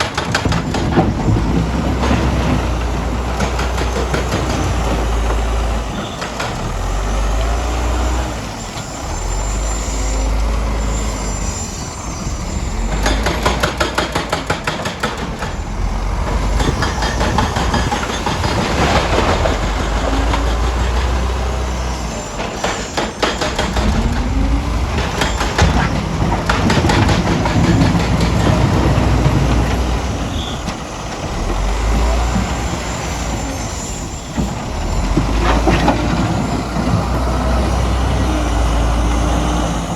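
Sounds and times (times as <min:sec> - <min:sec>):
metal clanking and rattling: 0:00.0 - 0:07.3, 0:12.2 - 0:39.1
diesel engine rumbling: 0:00.0 - 0:39.9.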